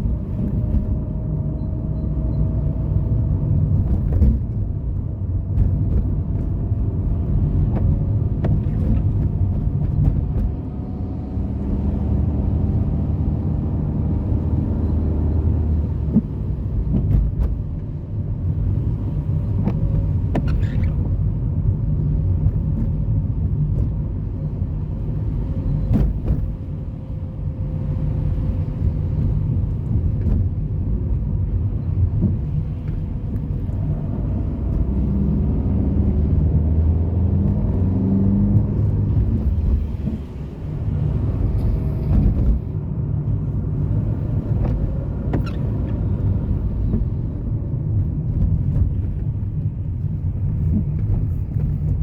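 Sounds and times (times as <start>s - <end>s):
car traffic rumble: 0.0s - 52.0s.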